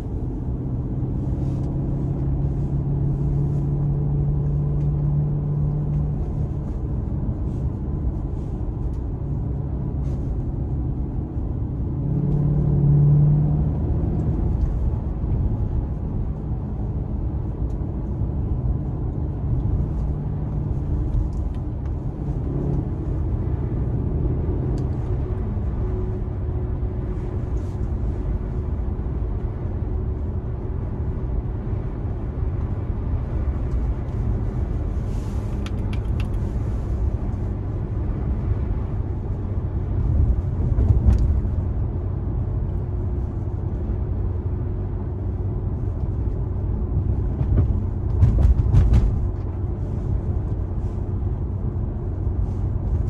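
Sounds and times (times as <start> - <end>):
car engine drone in cabin: 0.0 - 53.0.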